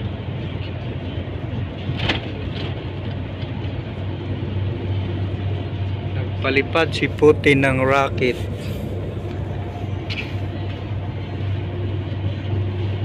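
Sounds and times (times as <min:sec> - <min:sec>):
diesel truck engine hum: 0:00.0 - 0:13.0
tyre and road noise: 0:00.0 - 0:13.0.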